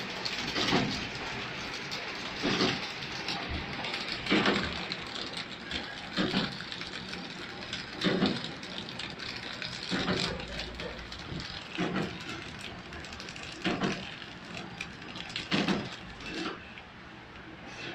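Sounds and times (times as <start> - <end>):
packing machine whirring: 0.0 - 17.9.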